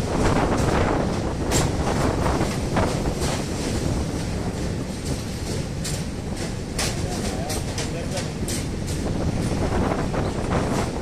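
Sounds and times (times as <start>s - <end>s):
train rumbling across bridge: 0.0s - 11.0s
wind buffeting microphone: 0.0s - 11.0s.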